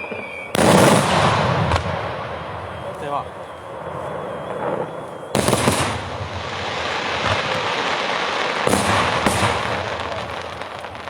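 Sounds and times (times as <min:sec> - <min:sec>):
fireworks bangs: 0:00.0 - 0:11.0
fireworks crackling barrage: 0:00.0 - 0:11.0.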